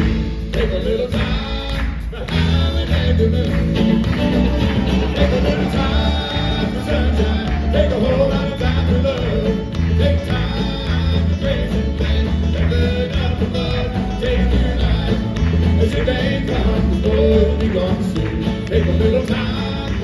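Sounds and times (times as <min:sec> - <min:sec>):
bluegrass band playing: 0:00.0 - 0:20.0
fiddle melody: 0:02.7 - 0:20.0.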